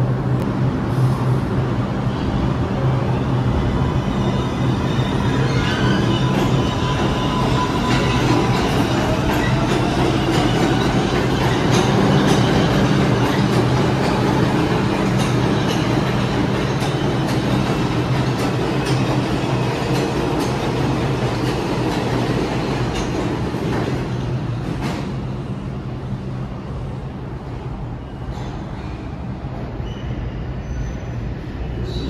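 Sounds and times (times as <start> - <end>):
train low hum: 0.0 - 32.0.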